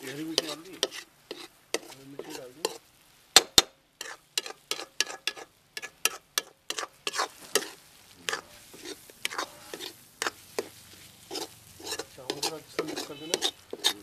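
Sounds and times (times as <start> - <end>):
faint sizzle: 0.0 - 14.0
metal spatula scraping a pan: 0.0 - 14.0.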